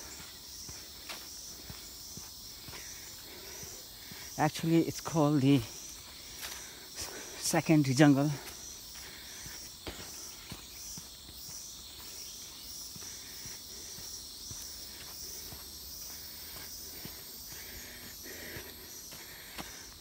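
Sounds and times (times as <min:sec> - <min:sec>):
footsteps on dry leaves: 0:00.0 - 0:20.0
high insect whine: 0:00.0 - 0:20.0
insects chorus pulsing: 0:00.0 - 0:20.0.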